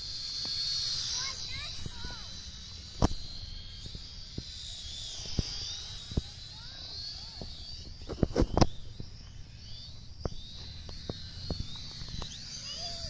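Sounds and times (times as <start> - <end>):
birds chirping: 0.0 - 13.0
sharp clicks: 0.3 - 13.0.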